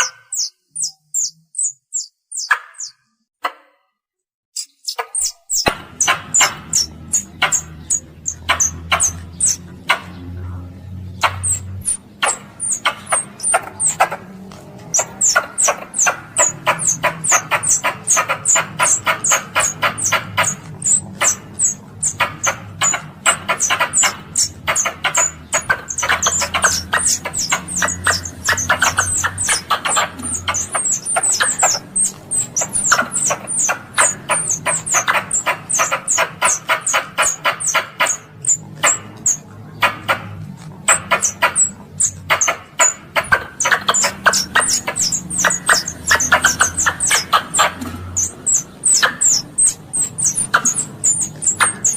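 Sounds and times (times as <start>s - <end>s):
squirrel chattering: 0.0s - 3.0s, 4.6s - 51.9s.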